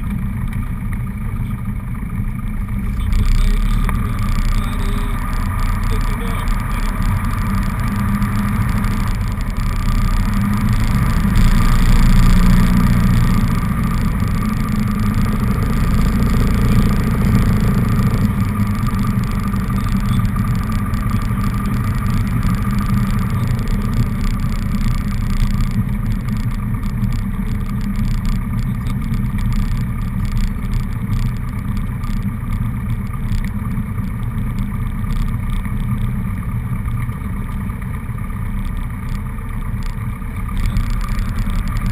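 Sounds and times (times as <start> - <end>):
small plane engine and propeller: 0.0 - 41.9.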